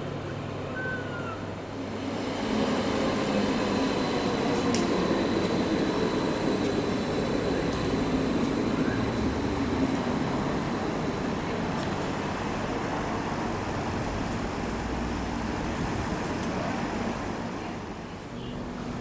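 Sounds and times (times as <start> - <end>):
electric train wheels and motors rumbling: 1.5 - 19.0.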